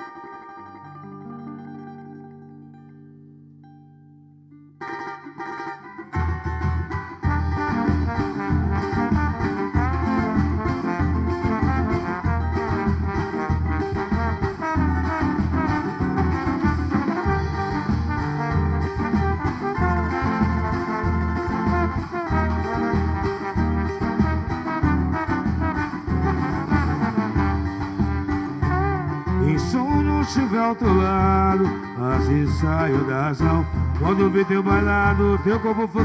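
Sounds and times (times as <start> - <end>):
band playing instrumental: 4.8 - 36.0
strong bass beat: 6.3 - 36.0.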